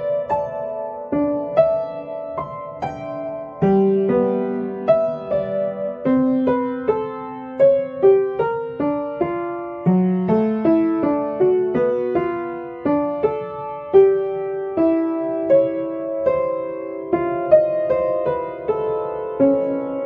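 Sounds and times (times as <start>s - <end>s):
piano melody: 0.0s - 20.0s.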